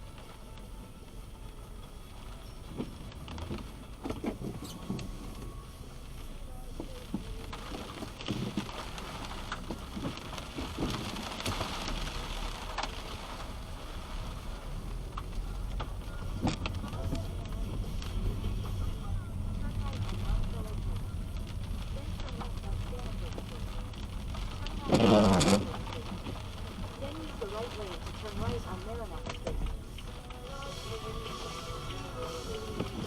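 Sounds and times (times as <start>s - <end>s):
low road rumble: 0.0s - 33.0s
rain tapping on car: 0.0s - 33.0s
tyre hiss on wet road: 4.1s - 33.0s.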